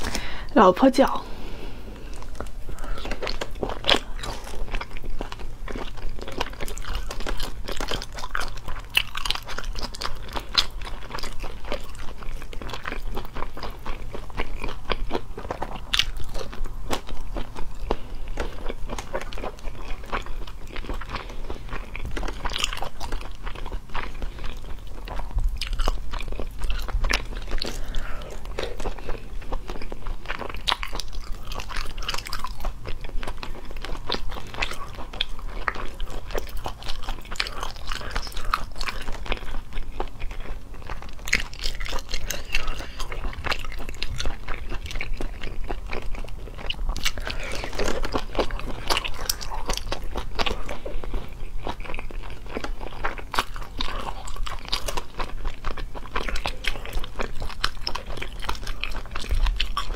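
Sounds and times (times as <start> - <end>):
crunchy chewing: 1.4 - 59.9.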